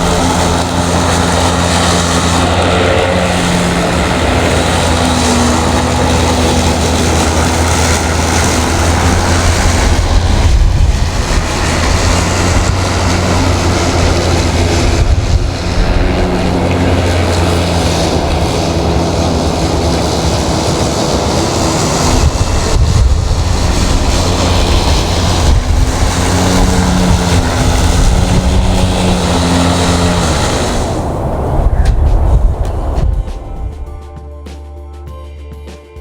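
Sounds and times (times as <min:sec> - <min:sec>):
electric lawn mower whirring: 0:00.0 - 0:33.7
wind on microphone: 0:00.0 - 0:34.1.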